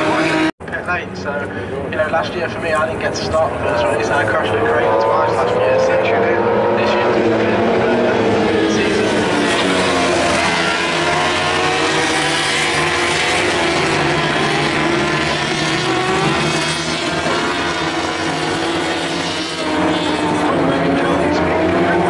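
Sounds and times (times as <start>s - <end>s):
racing motorcycles passing at speed: 0.0s - 0.5s, 3.1s - 22.0s.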